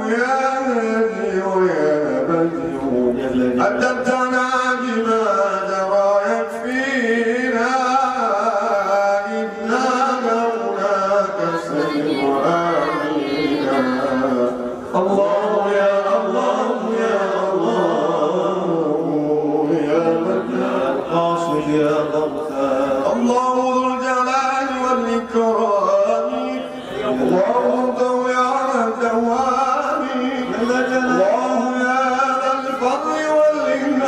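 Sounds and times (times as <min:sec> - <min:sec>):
man chanting into microphone: 0:00.0 - 0:34.0.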